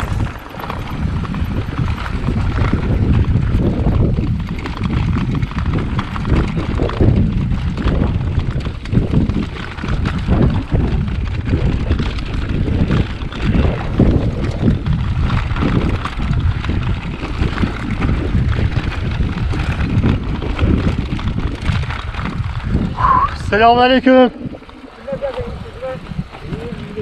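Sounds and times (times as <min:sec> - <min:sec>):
mountain bike rumble: 0:00.0 - 0:27.0
wind buffeting microphone: 0:00.0 - 0:27.0.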